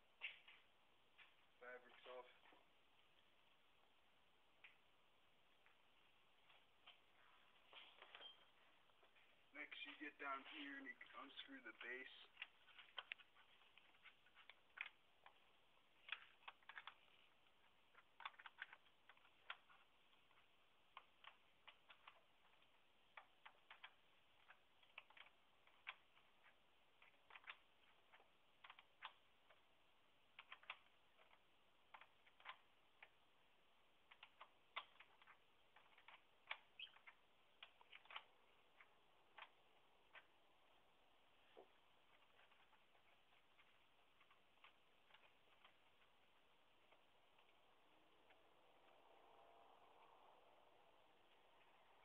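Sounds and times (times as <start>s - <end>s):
faint clicks and taps: 0.0s - 52.0s.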